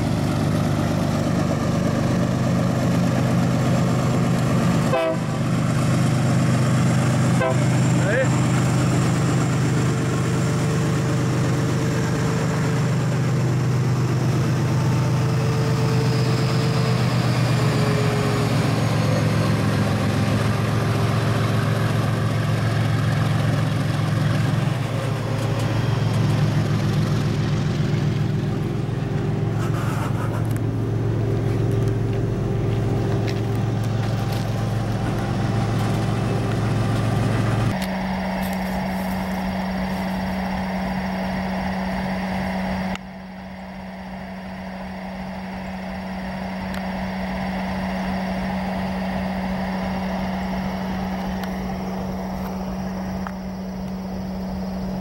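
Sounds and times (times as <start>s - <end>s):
diesel locomotive engine droning: 0.0s - 55.0s.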